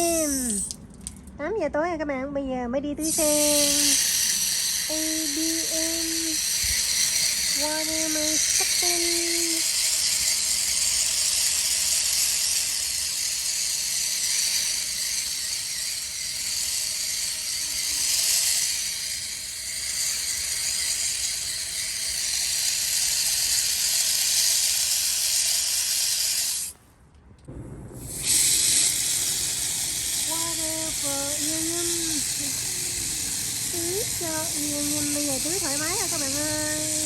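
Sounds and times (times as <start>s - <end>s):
water spraying from nozzle: 0.0s - 1.2s, 3.0s - 26.8s, 28.0s - 37.0s.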